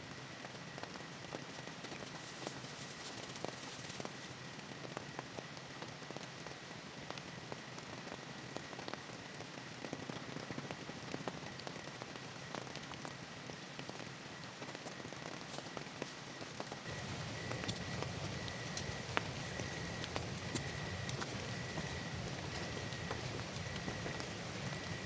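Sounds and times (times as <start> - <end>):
rain drops tapping: 0.2 - 25.0.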